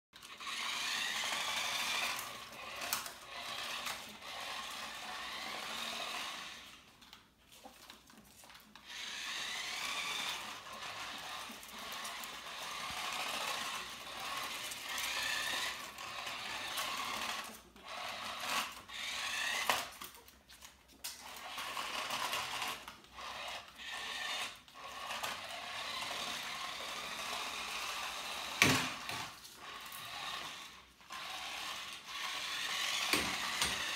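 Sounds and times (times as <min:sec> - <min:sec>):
toy car electric motor whining: 0:00.2 - 0:20.3, 0:21.0 - 0:33.9.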